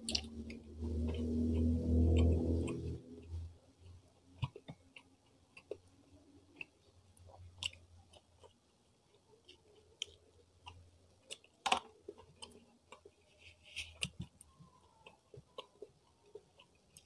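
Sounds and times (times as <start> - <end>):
close chewing: 0.0 - 17.0.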